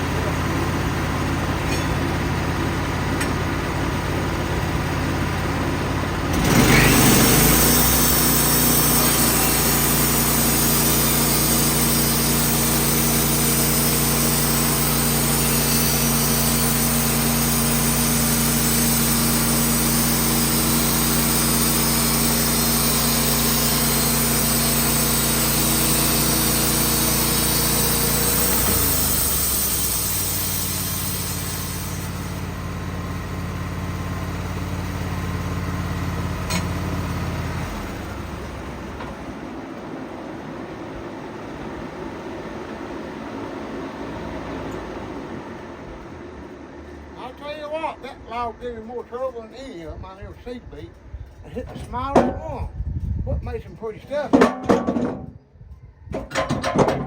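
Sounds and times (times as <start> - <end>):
sawmill engine running: 0.0 - 55.2.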